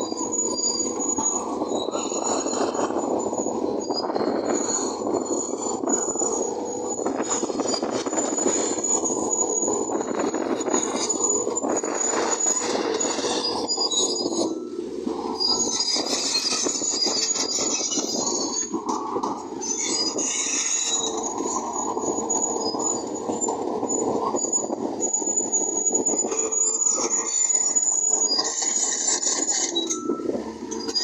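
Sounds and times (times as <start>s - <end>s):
bulldozer engine running: 0.0s - 31.0s
high-pitched track squeal: 0.0s - 31.0s
steel tracks clattering: 0.0s - 31.0s.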